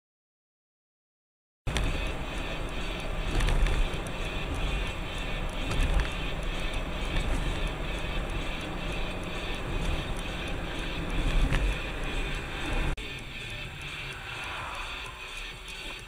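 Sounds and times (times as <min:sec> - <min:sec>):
car road and engine noise: 0:01.7 - 0:16.0.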